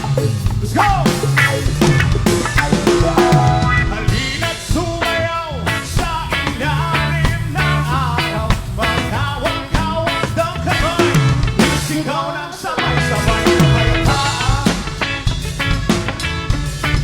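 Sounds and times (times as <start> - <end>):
bass line: 0.0 - 17.0
drum kit groove: 0.0 - 17.0
reggae band playing: 0.0 - 17.0.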